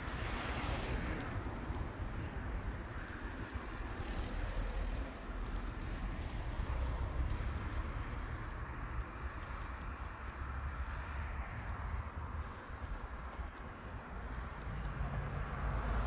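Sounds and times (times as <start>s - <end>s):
faint sharp ticks: 0.0s - 16.0s
road traffic: 0.0s - 16.0s
wind rumbling on microphone: 0.0s - 16.0s.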